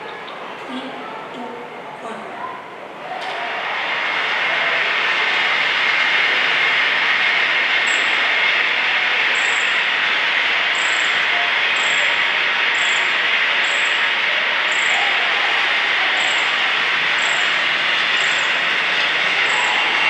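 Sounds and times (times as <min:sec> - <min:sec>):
loudspeaker test noise: 0:00.0 - 0:03.0, 0:03.6 - 0:20.0.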